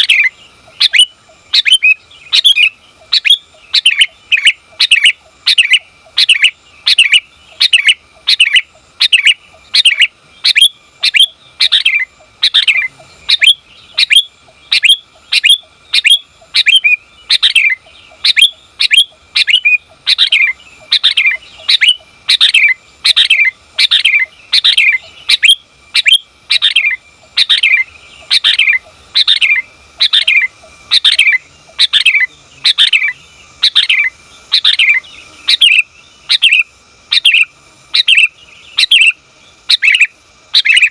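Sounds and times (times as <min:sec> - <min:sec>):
bird calling: 0:00.0 - 0:40.9.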